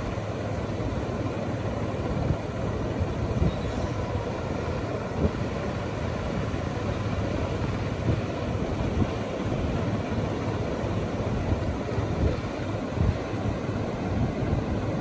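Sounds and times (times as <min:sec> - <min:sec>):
diesel tractor engine running: 0:00.0 - 0:15.0
surf washing: 0:00.0 - 0:15.0.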